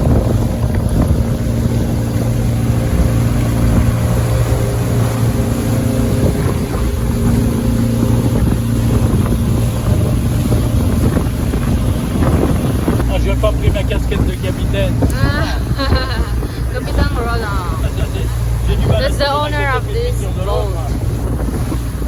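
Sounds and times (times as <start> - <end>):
motorboat engine humming: 0.0 - 22.0
rushing water: 0.0 - 22.0
wind buffeting microphone: 0.0 - 22.0.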